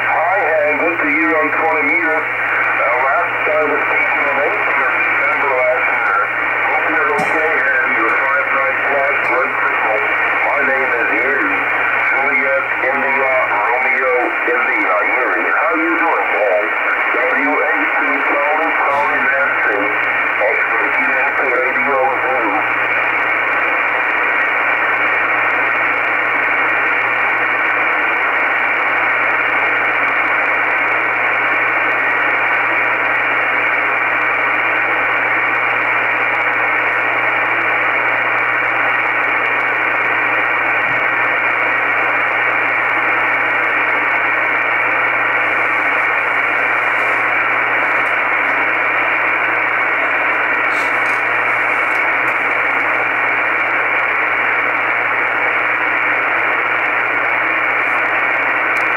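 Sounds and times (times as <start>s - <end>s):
radio static hiss: 0.0s - 58.9s.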